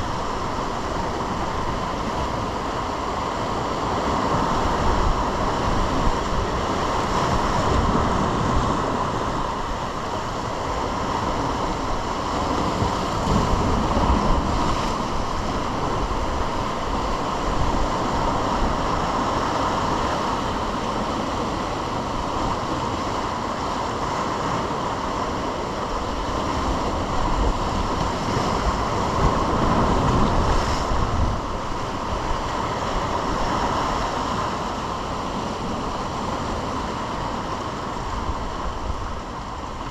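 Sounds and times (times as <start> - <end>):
surf on rocky shore: 0.0 - 39.9
wind buffeting microphone: 0.0 - 39.9.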